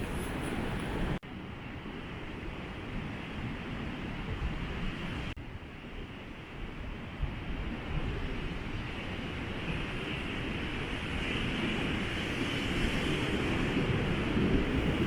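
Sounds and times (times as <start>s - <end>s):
wind buffeting microphone: 0.0s - 1.2s, 2.1s - 15.0s
ocean surf: 0.0s - 15.0s.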